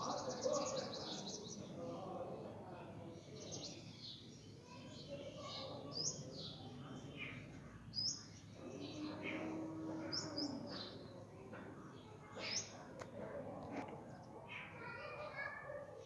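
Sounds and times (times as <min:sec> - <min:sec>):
faint background murmur: 0:00.0 - 0:16.0.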